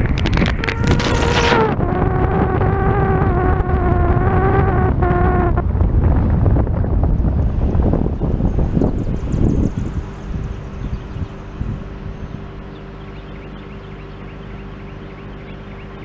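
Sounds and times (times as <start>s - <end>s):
steady whine: 0.0s - 16.0s
wind rumble on microphone: 0.0s - 16.0s.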